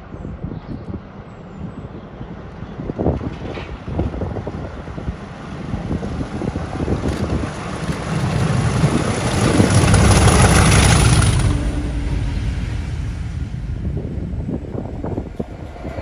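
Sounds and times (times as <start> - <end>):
wind buffeting microphone: 0.0 - 16.0
diesel locomotive engine under power: 0.1 - 16.0.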